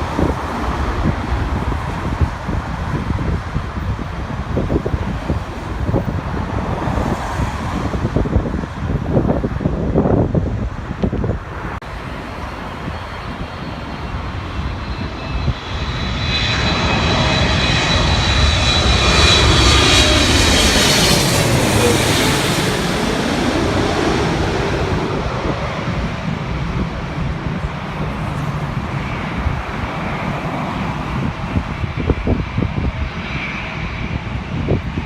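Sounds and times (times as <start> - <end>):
high engine whine: 0.0 - 35.0
jet airliner passing by: 0.0 - 35.0.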